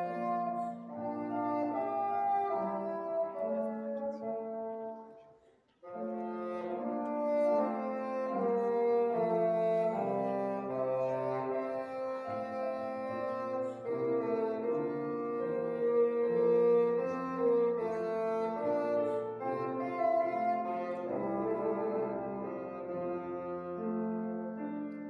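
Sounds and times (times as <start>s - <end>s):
bassoon with piano accompaniment: 0.0s - 25.0s.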